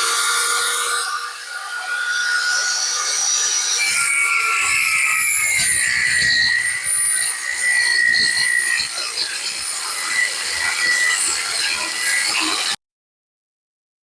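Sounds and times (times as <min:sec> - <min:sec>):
angle grinder cutting steel: 0:00.0 - 0:12.8.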